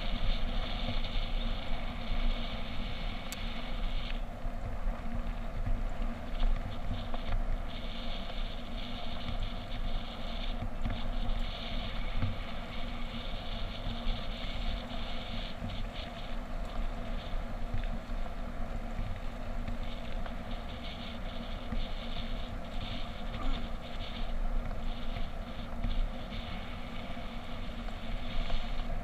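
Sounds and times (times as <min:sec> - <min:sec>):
hiss: 0:00.0 - 0:04.2, 0:06.3 - 0:17.4, 0:19.8 - 0:29.0.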